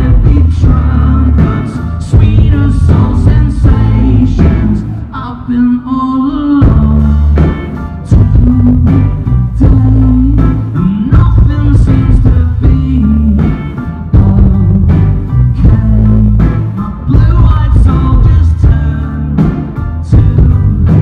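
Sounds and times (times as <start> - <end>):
live pop-rock band: 0.0 - 21.0
person singing: 0.0 - 21.0.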